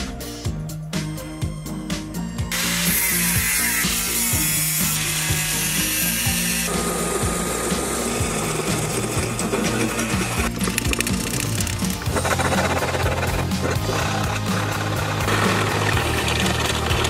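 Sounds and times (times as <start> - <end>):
background music with beat: 0.0 - 17.0
cut-off disc grinding steel: 2.5 - 17.0
drill bit boring through steel: 2.5 - 17.0.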